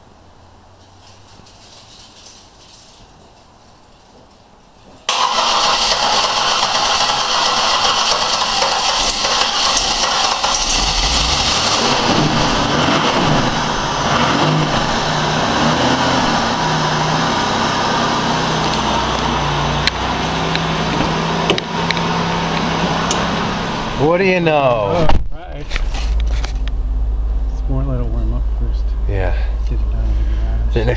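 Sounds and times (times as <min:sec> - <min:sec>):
car engine cranking and idling: 0:05.0 - 0:30.9.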